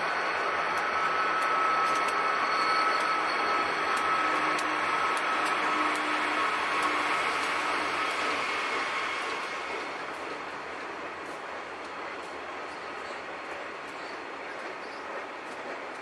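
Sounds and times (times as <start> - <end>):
diesel freight train passing: 0.0 - 16.0
wheels on rail: 0.0 - 16.0.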